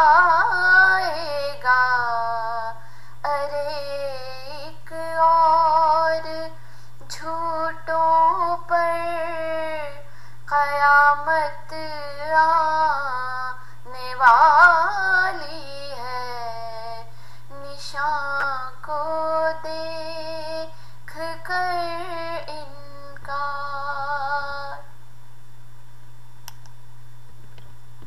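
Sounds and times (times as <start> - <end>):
woman singing unaccompanied: 0.0 - 24.9
steady low hum: 0.0 - 28.0.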